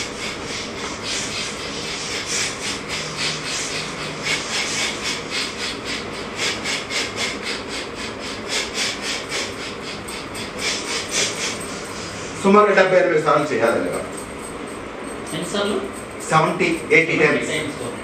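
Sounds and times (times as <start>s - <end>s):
rhythmic swishing and rubbing: 0.0s - 18.0s.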